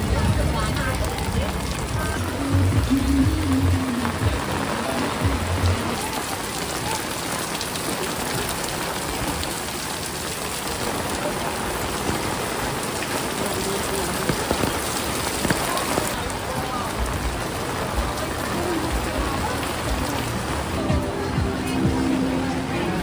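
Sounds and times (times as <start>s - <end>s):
raindrop ticks: 0.0s - 22.6s
heavy rain pouring: 0.0s - 23.0s.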